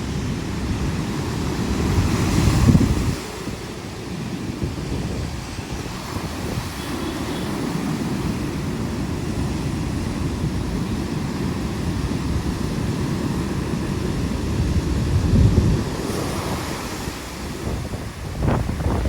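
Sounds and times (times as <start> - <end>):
storm surf: 0.0 - 19.0
wind buffeting microphone: 0.0 - 19.0.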